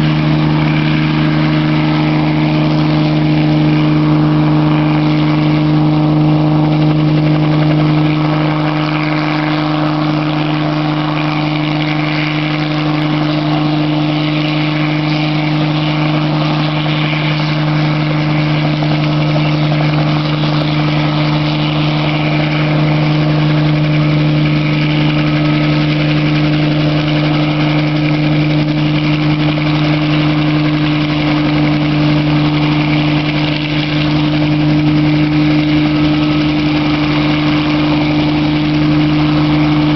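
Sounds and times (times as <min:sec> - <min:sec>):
helicopter engine and rotor hum: 0:00.0 - 0:39.9.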